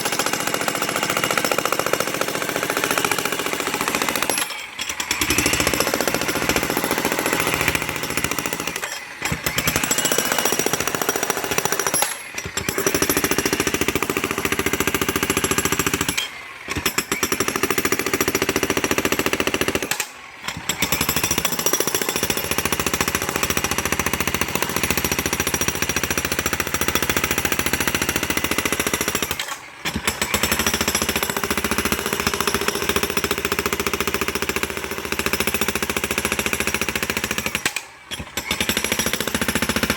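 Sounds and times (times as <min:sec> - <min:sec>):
jackhammer breaking concrete: 0:00.0 - 0:39.9.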